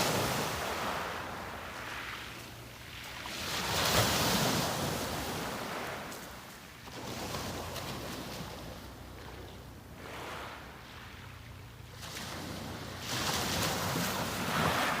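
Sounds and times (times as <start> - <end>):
sea waves breaking on beach: 0.0 - 9.3, 10.0 - 15.0.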